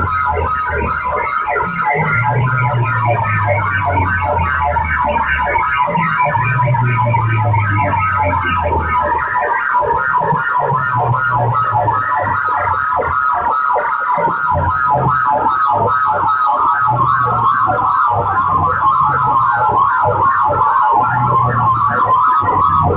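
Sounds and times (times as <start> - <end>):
electronic siren-like warbling tone: 0.0 - 22.9.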